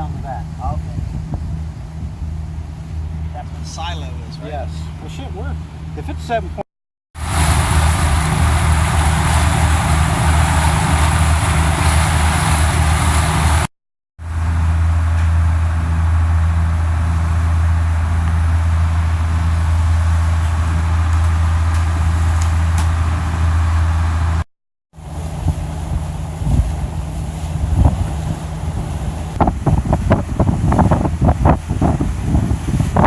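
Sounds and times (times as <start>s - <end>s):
boat engine drone: 0.0s - 6.6s, 7.2s - 33.0s
wind and water rushing: 0.0s - 6.6s, 7.2s - 24.4s, 25.0s - 33.0s.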